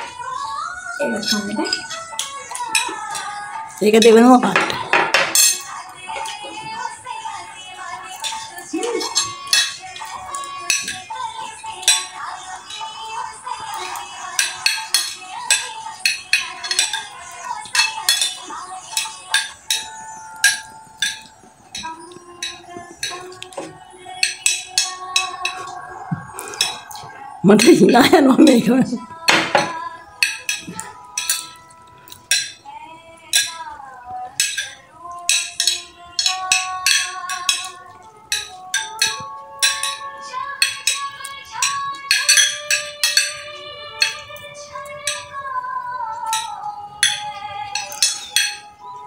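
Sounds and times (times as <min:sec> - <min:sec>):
spoons clinking on ceramic plates: 0:01.1 - 0:28.7, 0:29.3 - 0:32.7, 0:33.3 - 0:45.4, 0:46.2 - 0:49.0.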